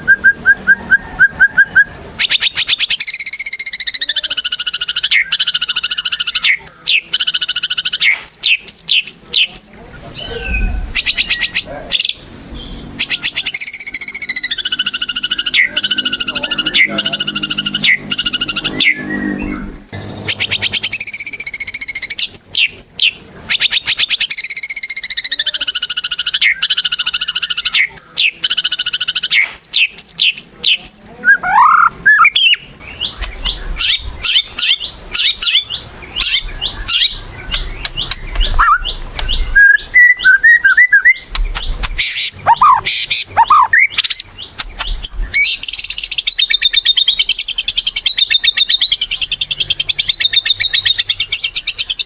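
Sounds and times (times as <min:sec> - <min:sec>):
songbird trills and whistles: 0:00.0 - 0:52.0.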